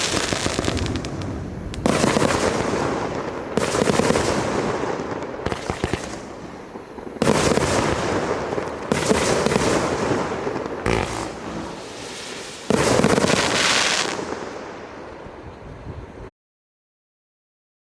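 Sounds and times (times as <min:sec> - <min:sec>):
firework cake firing: 0:00.0 - 0:15.3.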